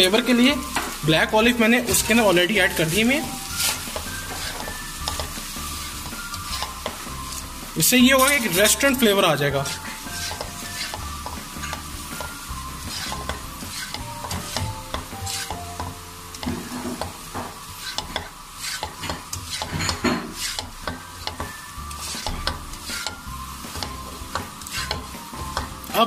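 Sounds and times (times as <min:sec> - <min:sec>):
faint frying sizzle: 0:00.0 - 0:26.0
spatula scraping a metal pan: 0:03.2 - 0:07.5, 0:08.2 - 0:25.7.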